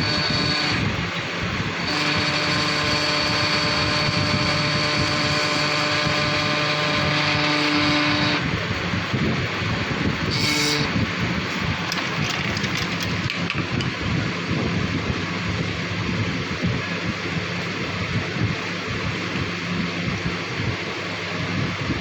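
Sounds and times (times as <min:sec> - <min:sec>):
machine whine: 0:00.0 - 0:22.0
mechanical hum: 0:00.0 - 0:22.0.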